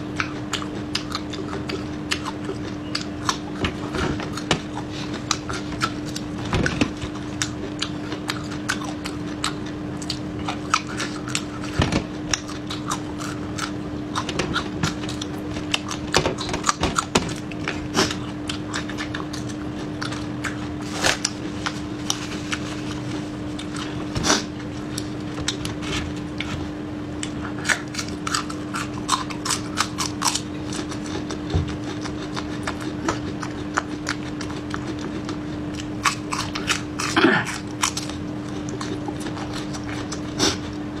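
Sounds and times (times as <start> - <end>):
crunchy food chewing: 0.0 - 41.0.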